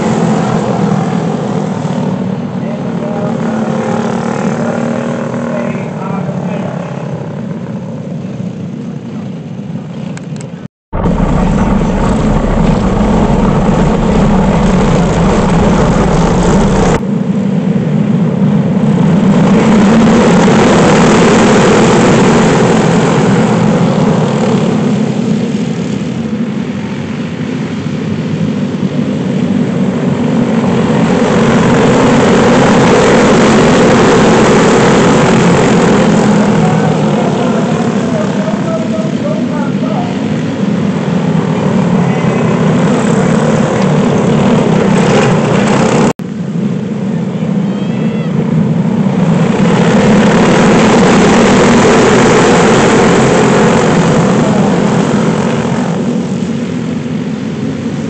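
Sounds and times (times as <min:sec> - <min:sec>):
go-kart engines racing past: 0:00.0 - 0:10.2, 0:11.0 - 0:58.0.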